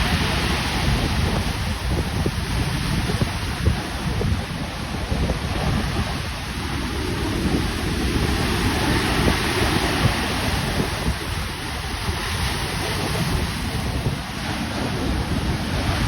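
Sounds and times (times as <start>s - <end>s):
stormy surf breaking: 0.0s - 16.0s
wind buffeting microphone: 0.0s - 16.0s.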